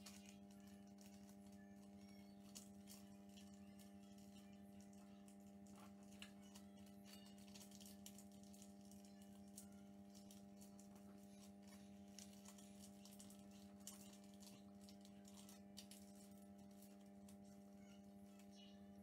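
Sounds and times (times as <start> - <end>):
thin paper crinkling: 0.0 - 18.6
low electrical hum: 0.0 - 19.0.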